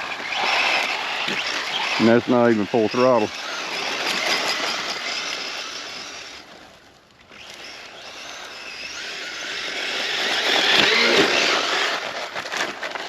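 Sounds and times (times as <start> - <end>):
electric motor whining: 0.0 - 6.7, 7.3 - 13.0.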